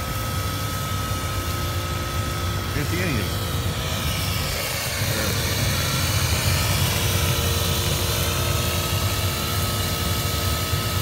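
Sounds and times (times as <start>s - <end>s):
water heater engine hum: 0.0s - 11.0s.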